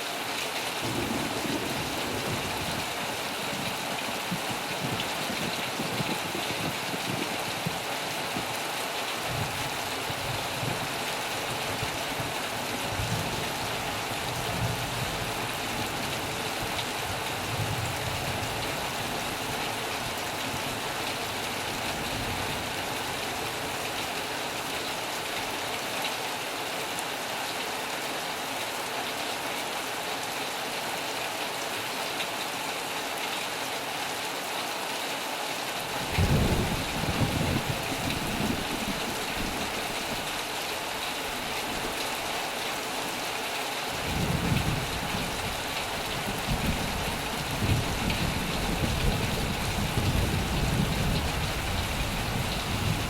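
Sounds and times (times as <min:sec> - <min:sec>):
heavy rain hiss: 0:00.0 - 0:53.0.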